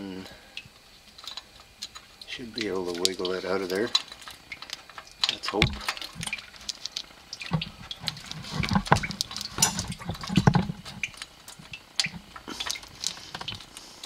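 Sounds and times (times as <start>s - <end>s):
liquid dripping into a pan: 0.4s - 13.7s.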